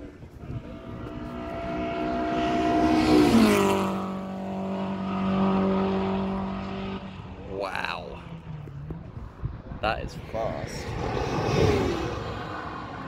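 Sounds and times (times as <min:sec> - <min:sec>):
race car passing at speed: 0:00.0 - 0:13.0.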